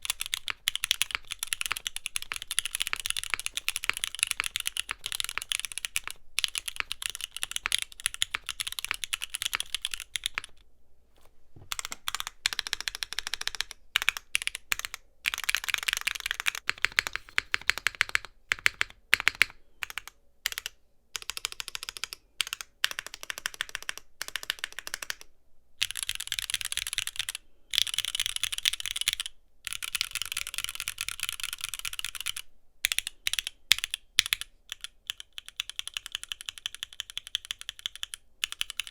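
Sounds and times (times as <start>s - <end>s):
fast typing on mechanical keyboard: 0.0s - 10.6s, 11.7s - 38.9s.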